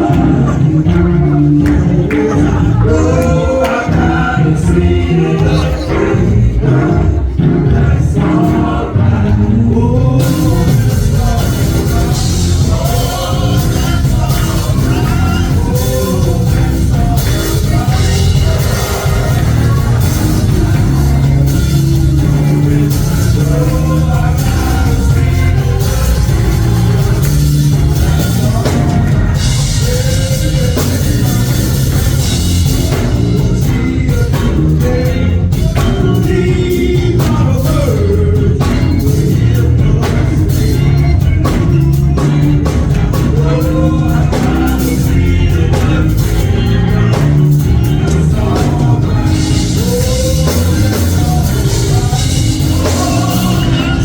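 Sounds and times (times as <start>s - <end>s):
drums: 0.0s - 54.0s
gospel band music: 0.0s - 54.0s
heavy bass line: 0.0s - 54.0s
person singing: 0.0s - 54.0s.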